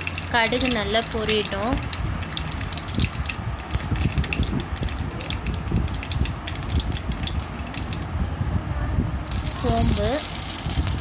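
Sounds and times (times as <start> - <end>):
seeds popping in hot oil: 0.0 - 8.1, 9.3 - 11.0
low rumble: 1.8 - 11.0.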